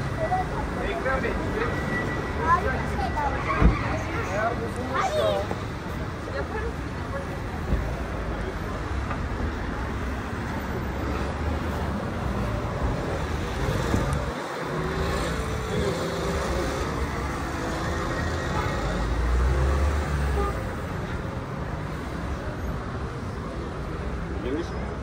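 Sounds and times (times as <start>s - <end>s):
cars driving past: 0.0s - 25.0s.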